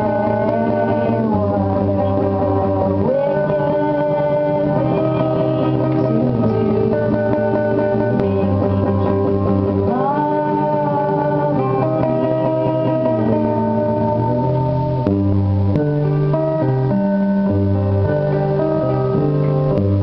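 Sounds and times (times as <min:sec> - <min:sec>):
electric bass guitars sliding notes: 0:00.0 - 0:20.0.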